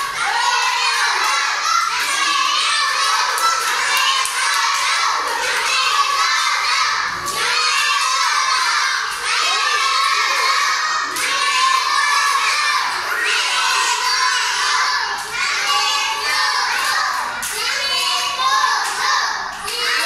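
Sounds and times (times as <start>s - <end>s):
children shouting and cheering: 0.0s - 20.0s.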